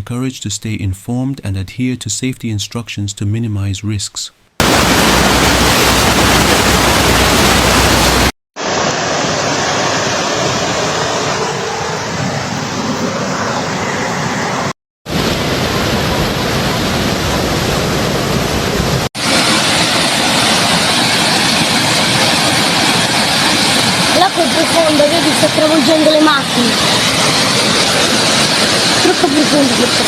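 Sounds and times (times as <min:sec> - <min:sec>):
floodwater rushing: 0:04.6 - 0:30.0.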